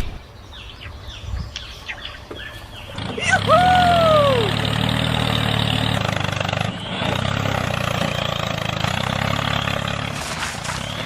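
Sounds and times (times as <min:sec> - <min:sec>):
engine idling: 0:02.2 - 0:11.0.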